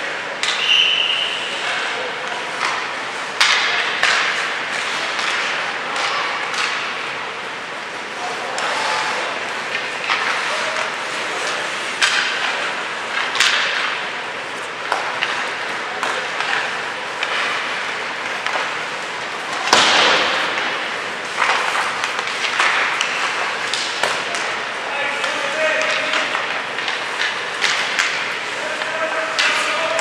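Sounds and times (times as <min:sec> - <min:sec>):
hockey sticks and pucks clacking: 0:00.0 - 0:30.0
skate blades scraping ice: 0:02.4 - 0:30.0.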